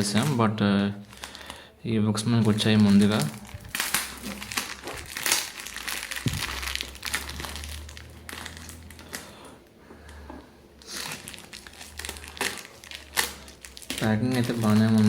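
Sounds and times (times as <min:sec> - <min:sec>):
packaging crinkling and rustling: 0:00.0 - 0:01.6, 0:02.2 - 0:15.0.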